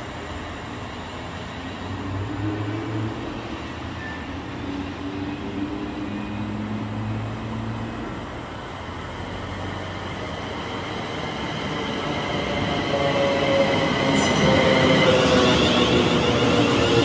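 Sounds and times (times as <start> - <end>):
electric train whine: 0.0 - 17.0
train wheels rumbling on rails: 0.0 - 17.0.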